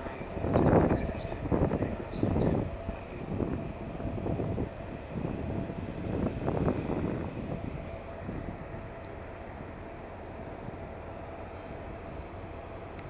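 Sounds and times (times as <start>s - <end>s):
faint ship hum: 0.0s - 13.0s
wind buffeting microphone: 0.0s - 13.0s.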